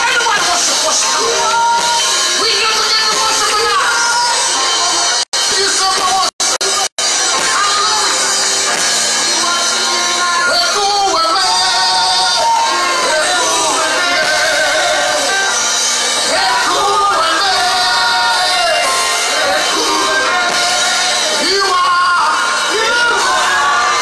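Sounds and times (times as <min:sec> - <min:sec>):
voices singing: 0:00.0 - 0:24.0.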